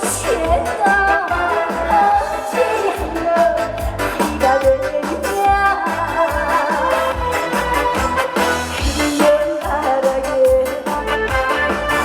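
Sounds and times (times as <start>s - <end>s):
amplified backing track with beat: 0.0s - 12.0s
woman singing: 0.0s - 12.0s.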